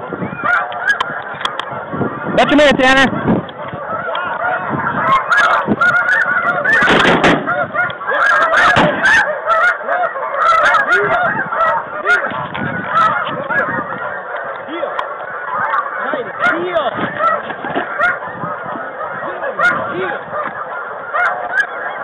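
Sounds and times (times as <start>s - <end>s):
geese honking chorus: 0.0s - 22.0s.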